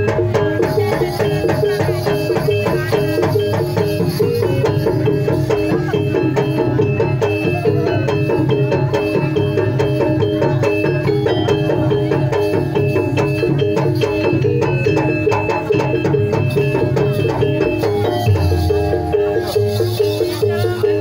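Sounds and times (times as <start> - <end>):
metallophones playing repeating melody: 0.0 - 21.0
steady drumming: 0.0 - 21.0.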